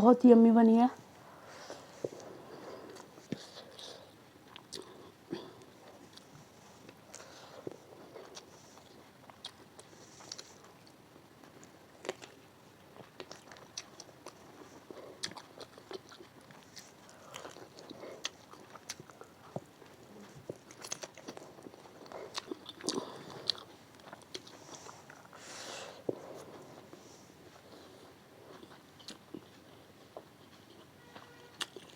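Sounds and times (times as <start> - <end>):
person chewing and crunching food: 1.6 - 31.9.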